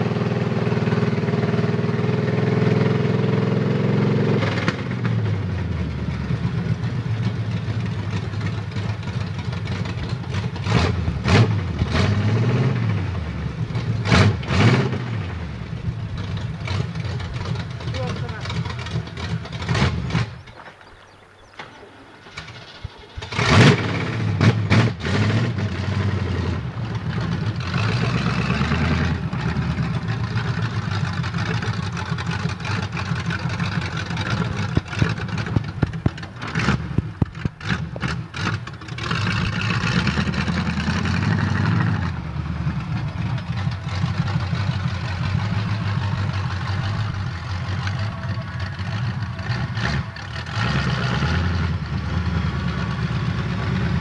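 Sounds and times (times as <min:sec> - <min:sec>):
truck engine starting and revving: 0:00.0 - 0:54.0.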